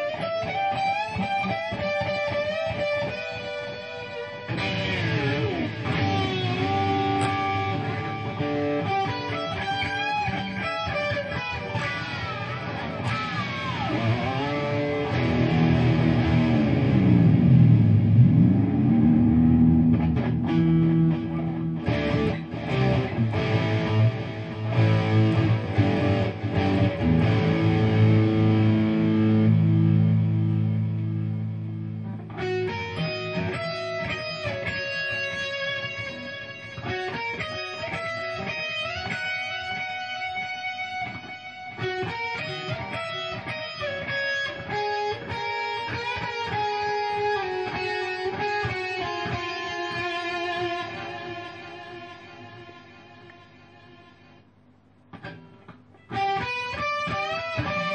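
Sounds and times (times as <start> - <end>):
electric guitar with delay: 0.0 - 57.9.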